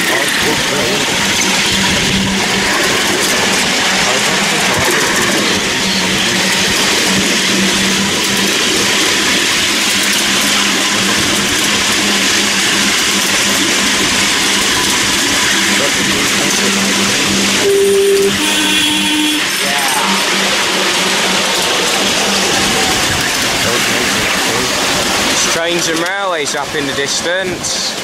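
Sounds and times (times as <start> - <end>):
low hum: 0.0 - 25.6
miniature train rumbling: 0.0 - 28.0.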